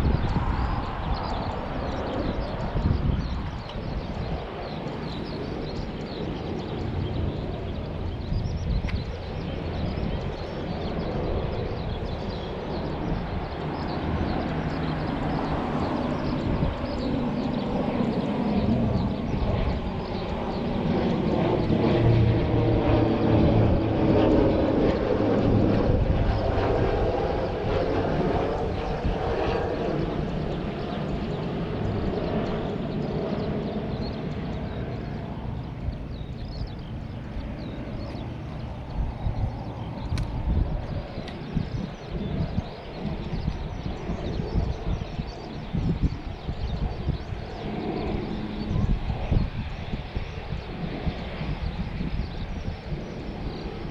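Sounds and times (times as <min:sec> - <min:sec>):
aircraft engine passing by: 0:00.0 - 0:53.9.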